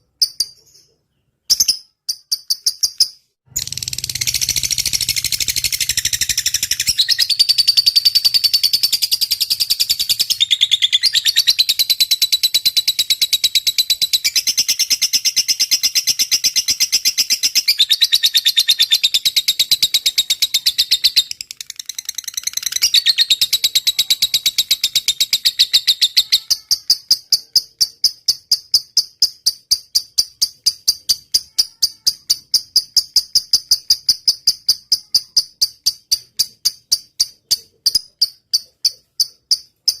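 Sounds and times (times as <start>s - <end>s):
lovebird chattering trill: 0.1s - 40.0s.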